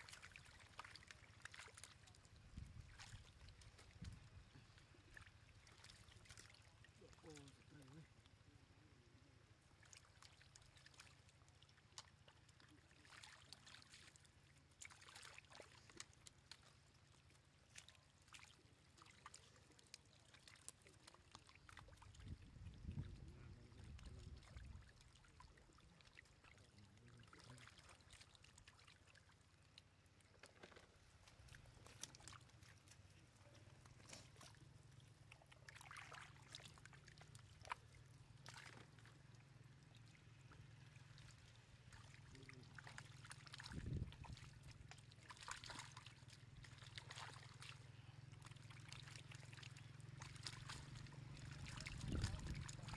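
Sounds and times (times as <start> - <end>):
fish splashing in water: 0.0 - 7.6, 9.5 - 22.8, 23.8 - 52.9.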